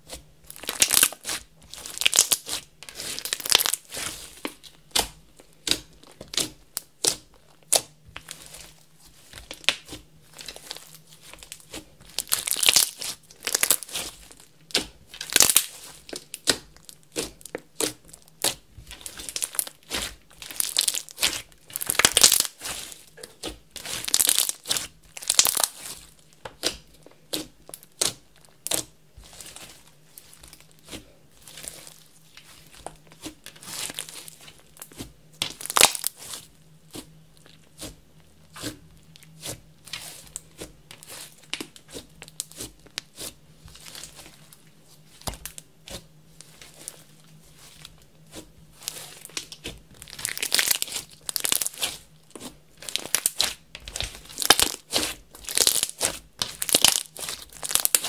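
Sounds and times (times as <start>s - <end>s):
slime squelching and popping: 0.0s - 44.4s, 45.1s - 58.0s.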